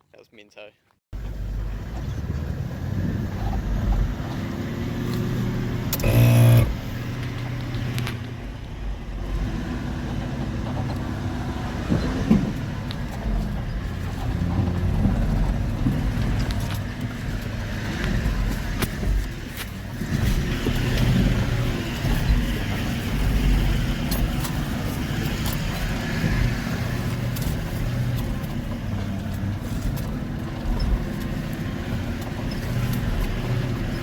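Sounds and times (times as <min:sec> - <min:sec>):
vehicle engine rumbling: 0:01.2 - 0:34.0.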